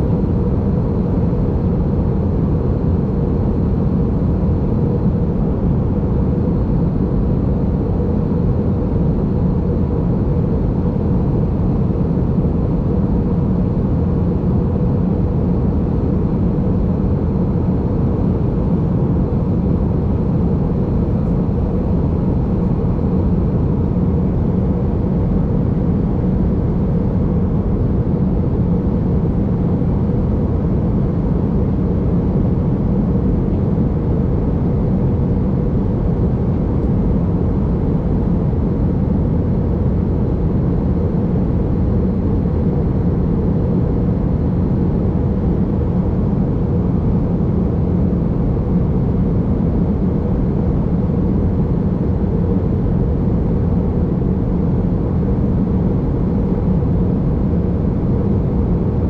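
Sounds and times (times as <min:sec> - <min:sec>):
airliner cabin noise in flight: 0:00.0 - 0:59.0.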